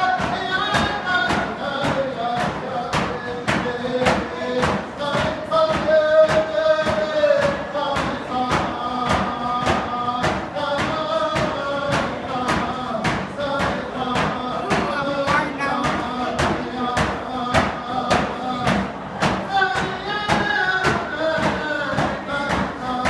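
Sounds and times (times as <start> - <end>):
drum steady beat: 0.0 - 23.0
voices singing: 0.0 - 23.0.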